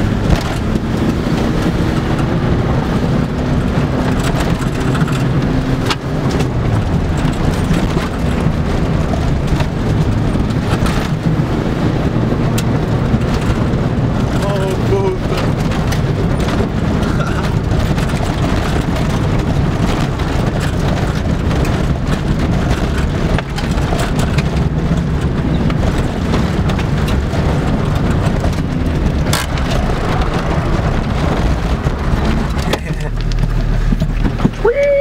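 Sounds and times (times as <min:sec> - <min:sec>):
car engine droning: 0:00.0 - 0:35.0.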